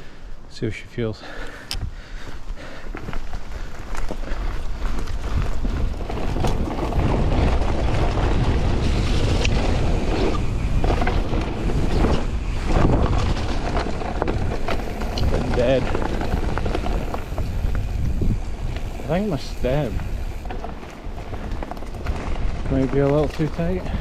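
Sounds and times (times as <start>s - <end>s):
wind buffeting microphone: 1.7s - 24.0s
tyre rumble on dirt: 2.6s - 24.0s
bike knocking over rough ground: 2.8s - 24.0s.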